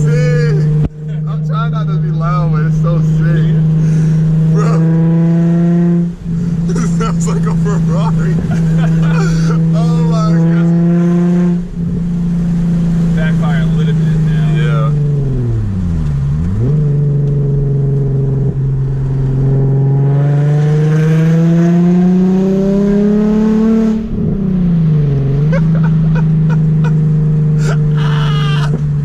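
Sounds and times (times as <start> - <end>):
loud car engine drone while driving: 0.0 - 29.0.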